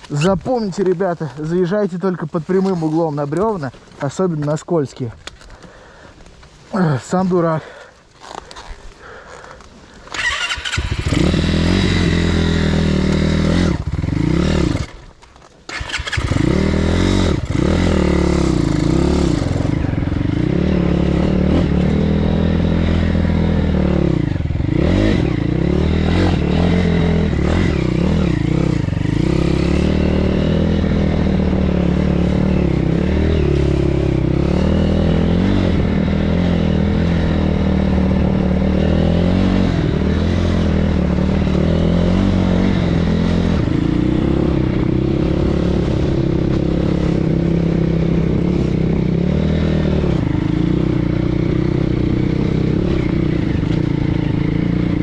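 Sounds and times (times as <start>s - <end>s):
motorcycle engine revving: 7.6s - 15.1s, 15.7s - 55.0s.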